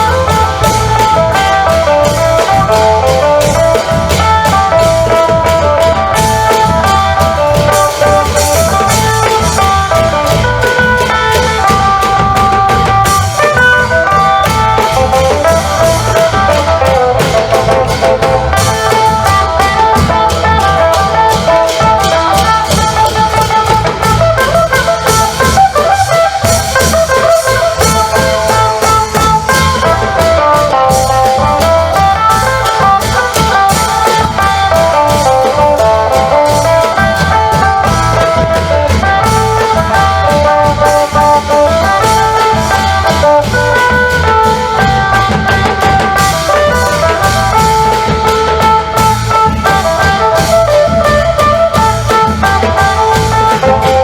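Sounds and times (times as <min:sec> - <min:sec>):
long drums beating: 0:00.0 - 0:54.0.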